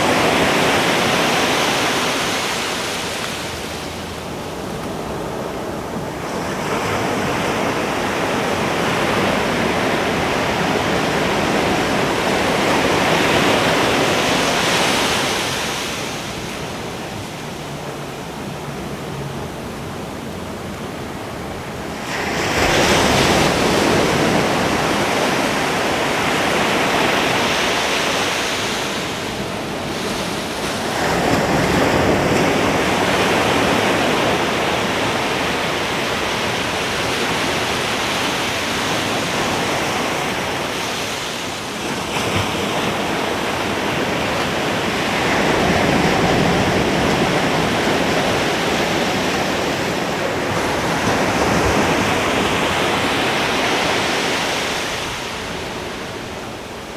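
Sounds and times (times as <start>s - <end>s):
ocean surf breaking: 0.0s - 56.9s.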